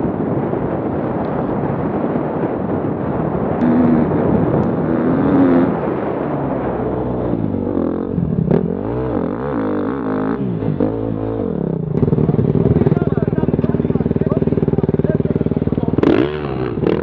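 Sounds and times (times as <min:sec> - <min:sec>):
motorcycle engine revving: 0:03.0 - 0:17.0.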